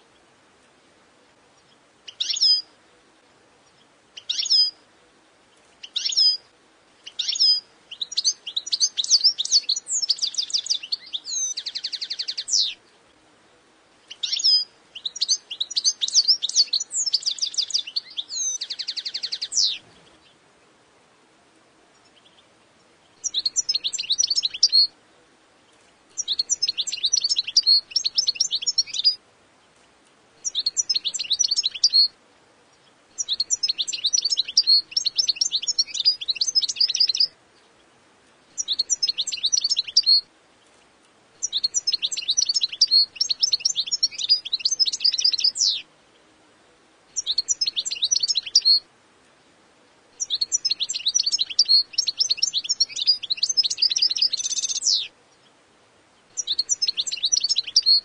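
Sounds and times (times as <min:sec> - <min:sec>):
goldfinch twittering song: 0:01.6 - 0:02.8, 0:03.6 - 0:04.8, 0:05.5 - 0:13.0, 0:14.0 - 0:20.4, 0:21.9 - 0:24.9, 0:25.7 - 0:32.1, 0:32.7 - 0:37.8, 0:38.5 - 0:40.8, 0:41.4 - 0:45.9, 0:47.2 - 0:48.9, 0:50.2 - 0:55.6, 0:56.2 - 0:58.0.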